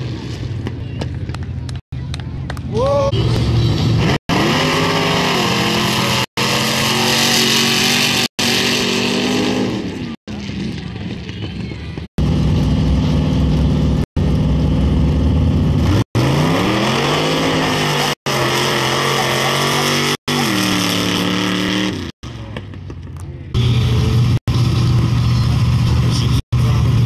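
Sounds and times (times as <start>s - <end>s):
truck engines accelerating hard: 0.0s - 27.0s.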